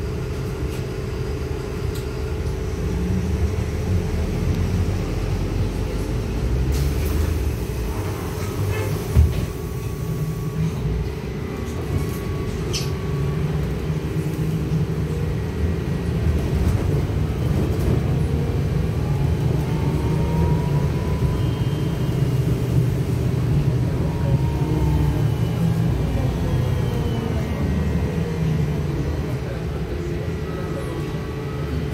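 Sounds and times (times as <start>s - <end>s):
trolleybus hum and rumble: 0.0s - 31.9s.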